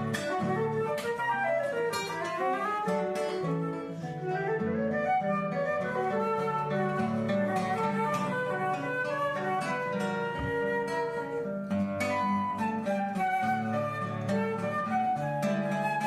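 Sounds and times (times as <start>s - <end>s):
acoustic plucked strings music: 0.0s - 16.0s.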